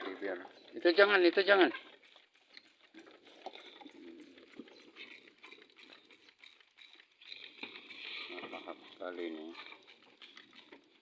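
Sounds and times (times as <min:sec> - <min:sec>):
goats chewing grass: 0:00.0 - 0:11.0.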